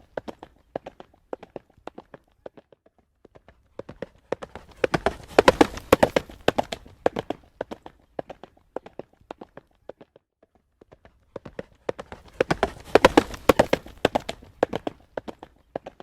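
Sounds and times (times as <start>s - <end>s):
horse hooves on hard road: 0.0s - 16.0s.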